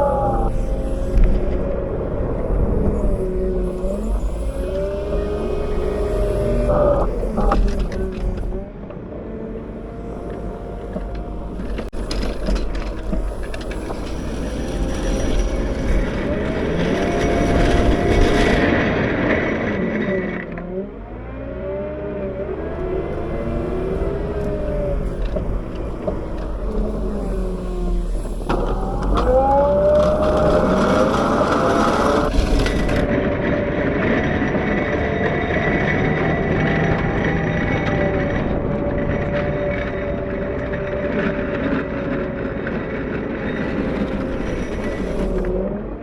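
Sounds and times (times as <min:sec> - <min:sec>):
wheel loader diesel engine revving: 0:00.0 - 0:46.0.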